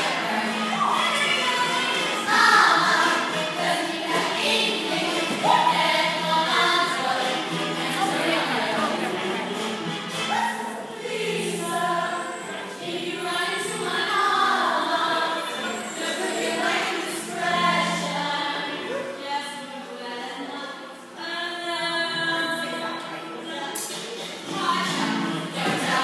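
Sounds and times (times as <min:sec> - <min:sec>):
group singing with accompaniment: 0:00.0 - 0:26.0.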